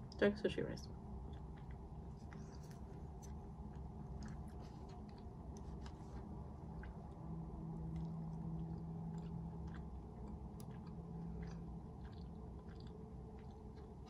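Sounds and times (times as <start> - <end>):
low hum: 0.0 - 14.0
person chewing: 1.1 - 14.0.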